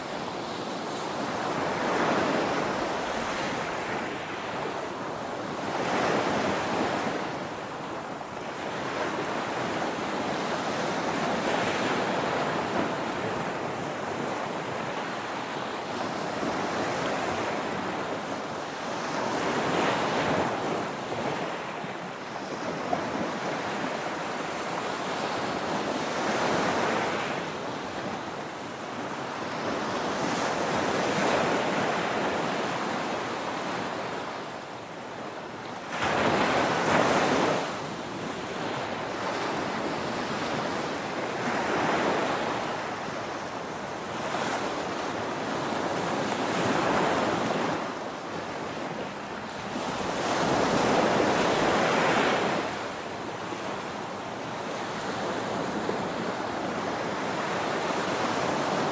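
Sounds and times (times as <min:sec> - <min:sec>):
ocean waves breaking on beach: 0:00.0 - 0:58.9.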